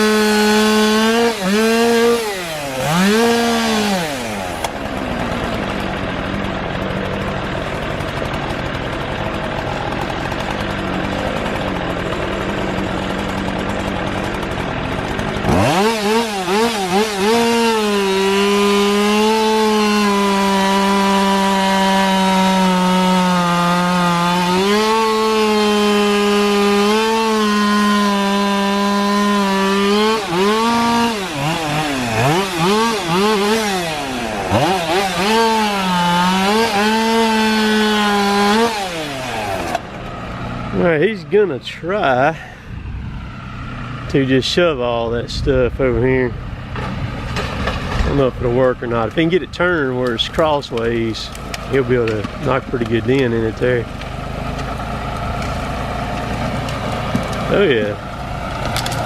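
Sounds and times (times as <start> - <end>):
chainsaw cutting wood: 0.0 - 42.6, 46.7 - 59.0.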